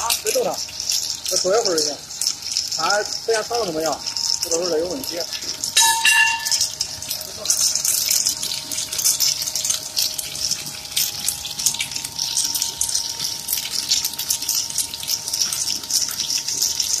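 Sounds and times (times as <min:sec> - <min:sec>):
faint machine whine: 0:00.0 - 0:17.0.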